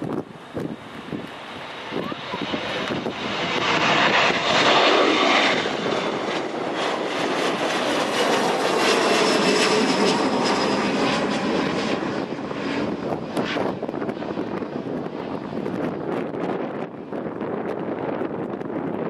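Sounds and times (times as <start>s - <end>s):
jet engine rumble with high whine: 0.0s - 19.0s.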